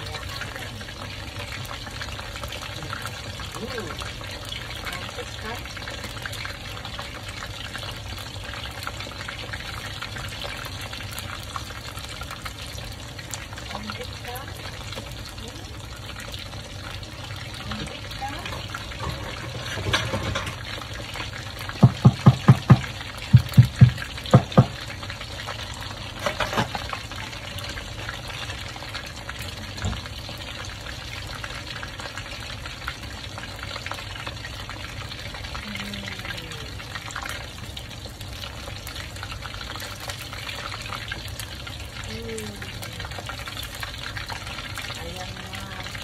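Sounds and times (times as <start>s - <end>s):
chicken deep-frying in hot oil: 0.0s - 46.0s.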